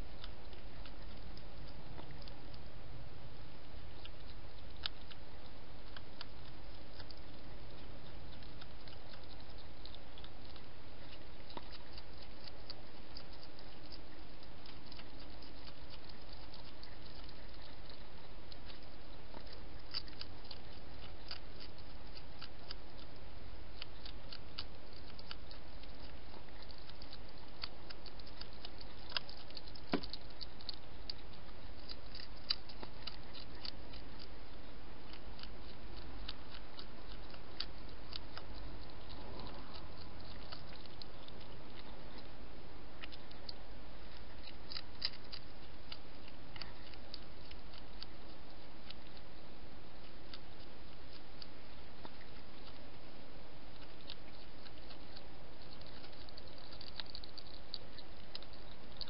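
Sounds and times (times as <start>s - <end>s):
hedgehog crunching dry food: 0.0s - 59.0s.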